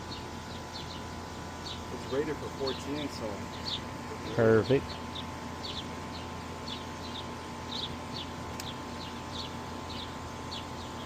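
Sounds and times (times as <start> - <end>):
bird chirping: 0.0 - 2.8, 3.5 - 3.9, 4.6 - 11.0
air conditioner compressor hum: 0.0 - 11.0.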